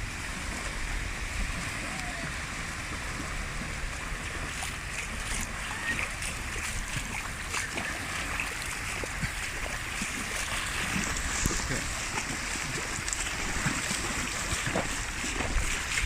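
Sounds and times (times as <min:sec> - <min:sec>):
water washing: 0:00.0 - 0:16.0.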